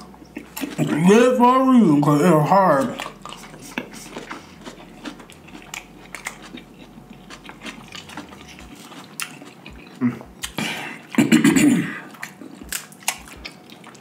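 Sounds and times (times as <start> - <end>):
people chewing and eating: 0.0 - 14.0.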